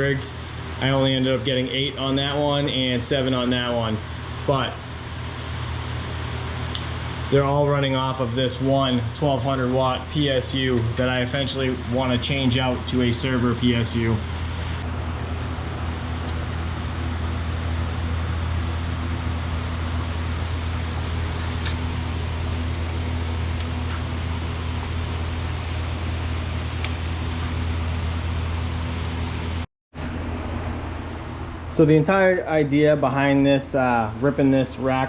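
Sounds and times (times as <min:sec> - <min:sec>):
cooling fans whooshing: 0:00.0 - 0:35.0
low hum: 0:00.0 - 0:35.0.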